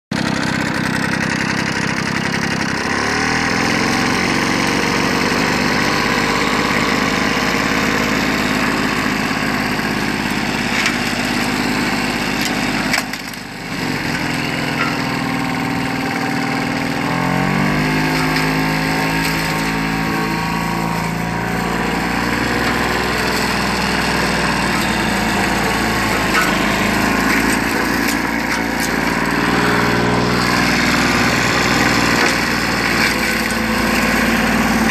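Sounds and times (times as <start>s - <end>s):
lawnmower engine running: 0.1s - 34.9s.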